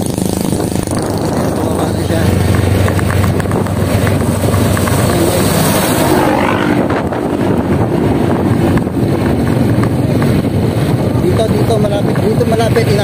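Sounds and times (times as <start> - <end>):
low engine drone: 0.0 - 13.0
wind and road noise: 0.0 - 13.0.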